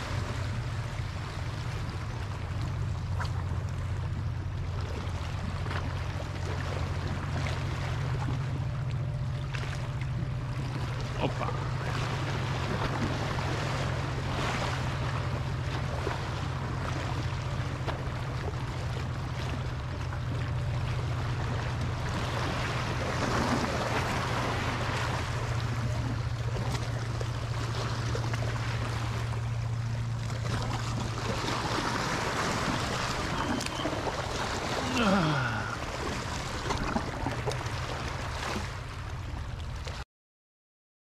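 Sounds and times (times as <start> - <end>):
sea waves splashing over rocks: 0.0 - 3.9, 4.8 - 39.2
steady low rumble: 0.0 - 40.0.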